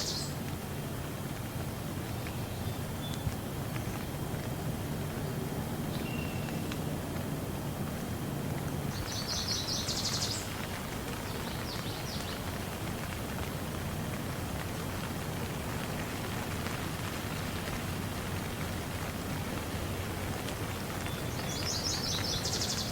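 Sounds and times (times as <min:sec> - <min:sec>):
steady rain: 0:00.0 - 0:22.9.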